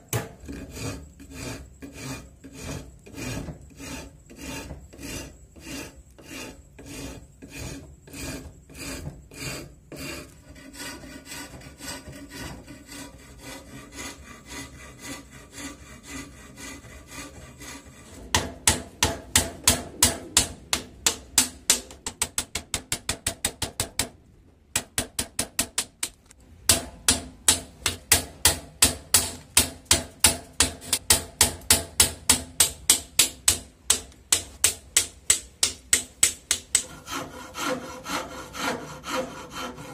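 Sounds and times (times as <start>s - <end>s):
file rasping on wood: 0.1s - 23.8s, 26.7s - 39.9s.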